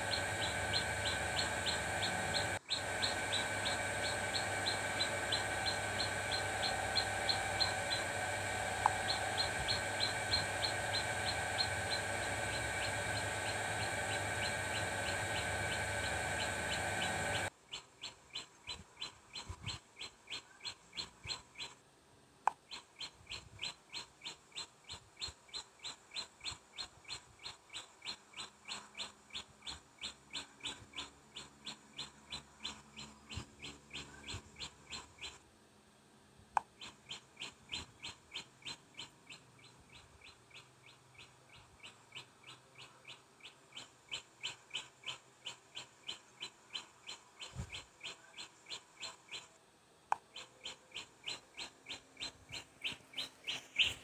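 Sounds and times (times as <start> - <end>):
bird chirping: 0.0 - 21.8, 22.5 - 35.4, 36.6 - 54.0.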